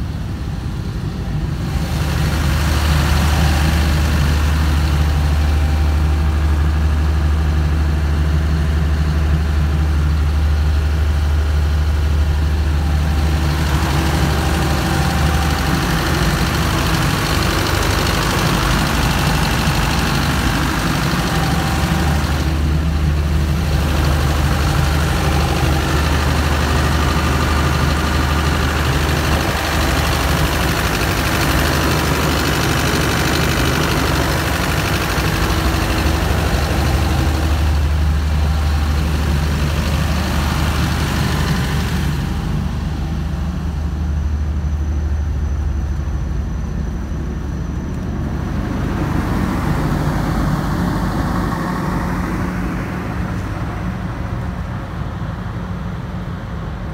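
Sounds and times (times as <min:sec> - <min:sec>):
diesel generator running: 0:00.0 - 0:56.9.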